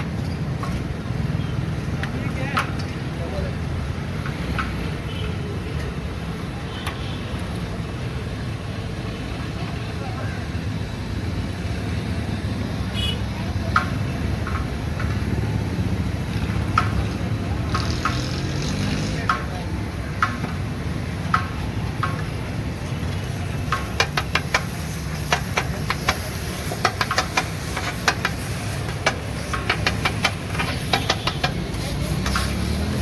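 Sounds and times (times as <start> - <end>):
low street rumble: 0.0 - 33.0.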